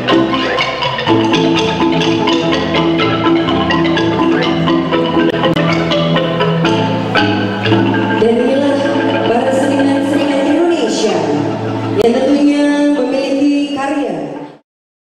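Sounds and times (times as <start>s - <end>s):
wooden xylophones playing melody: 0.0s - 13.5s.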